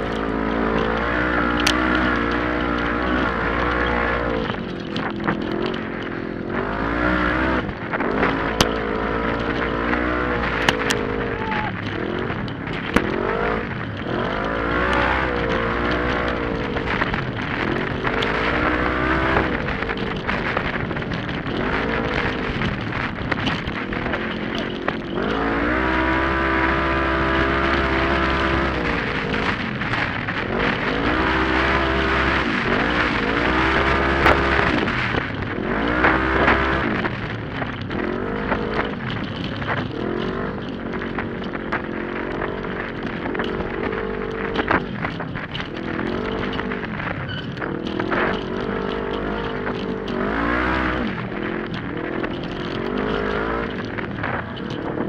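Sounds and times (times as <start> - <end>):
utility vehicle engine revving: 0.0 - 55.0.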